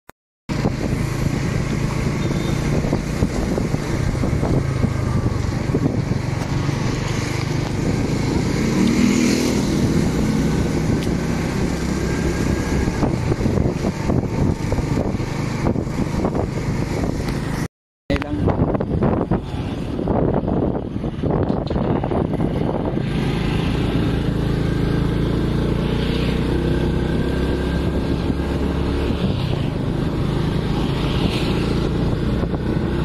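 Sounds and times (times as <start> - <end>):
motorcycle engine running: 0.5 - 33.0
road and wind noise: 0.5 - 33.0.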